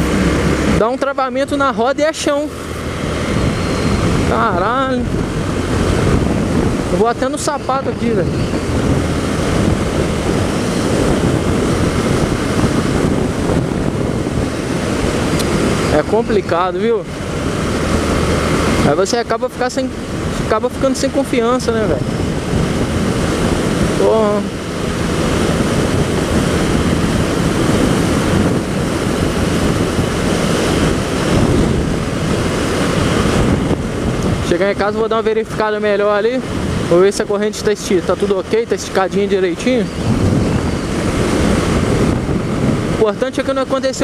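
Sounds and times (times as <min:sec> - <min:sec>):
motorcycle engine: 0:00.0 - 0:44.0
road noise: 0:00.0 - 0:44.0
wind rushing over microphone: 0:00.0 - 0:44.0.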